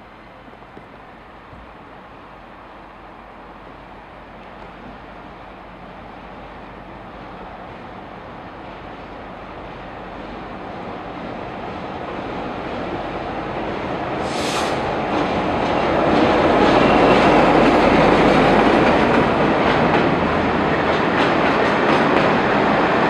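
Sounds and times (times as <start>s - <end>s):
diesel locomotive approaching: 0.0s - 23.0s.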